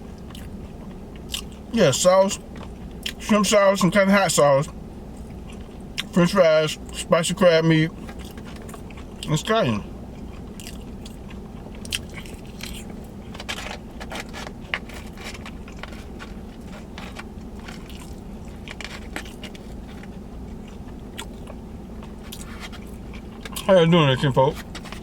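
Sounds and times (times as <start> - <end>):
chewing and biting fries: 0.0 - 1.7, 2.3 - 3.4, 5.1 - 7.0, 7.9 - 25.0
steady low hum: 0.0 - 25.0.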